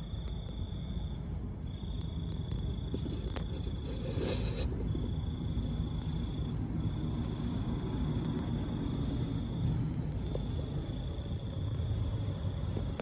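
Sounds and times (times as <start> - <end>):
cricket trilling: 0.0 - 13.0
low steady rumble: 0.0 - 13.0.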